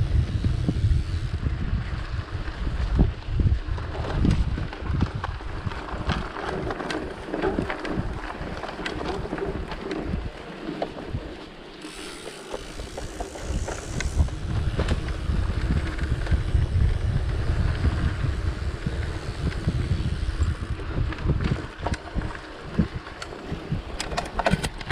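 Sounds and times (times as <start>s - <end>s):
bike clicks and rattles: 0.0s - 24.9s
wind on microphone: 0.0s - 24.9s
tyres rumbling on dirt: 3.6s - 24.9s.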